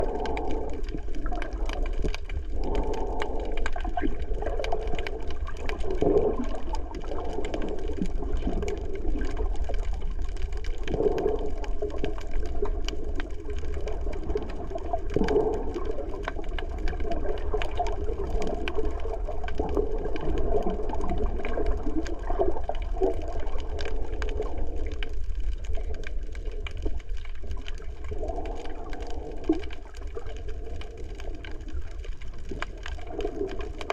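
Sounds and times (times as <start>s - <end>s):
faint clicks: 0.0s - 33.9s
low underwater rumble: 0.0s - 33.9s
muffled water swells: 0.0s - 33.9s.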